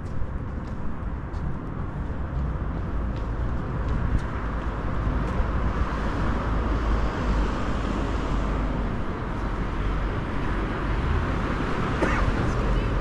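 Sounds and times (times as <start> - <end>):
city traffic hum: 0.0 - 13.0.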